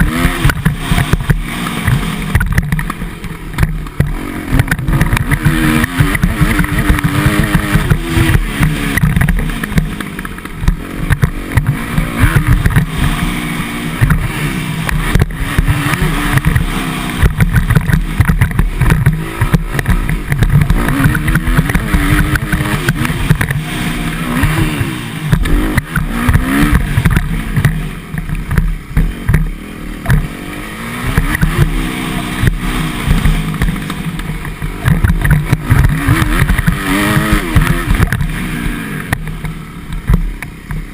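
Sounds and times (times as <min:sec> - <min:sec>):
dirt bike engine revving: 0:00.0 - 0:40.9
heavy low rumble: 0:00.0 - 0:40.9.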